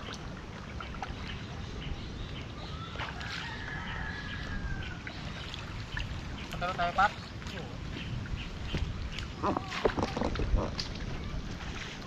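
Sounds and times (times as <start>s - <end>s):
water sloshing around wading legs: 0.0s - 12.0s.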